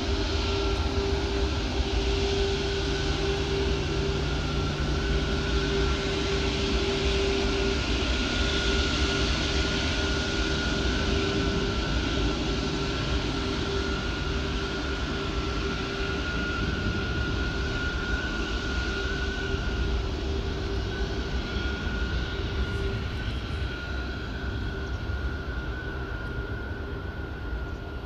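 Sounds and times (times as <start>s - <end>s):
jet engines rushing and whining: 0.0s - 28.0s.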